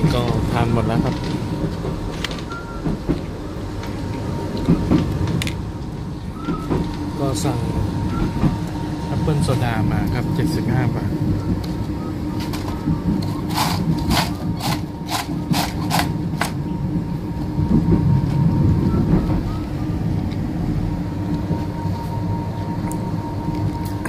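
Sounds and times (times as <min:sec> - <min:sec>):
steady hum: 0:00.0 - 0:24.0
train rumble: 0:00.0 - 0:24.0.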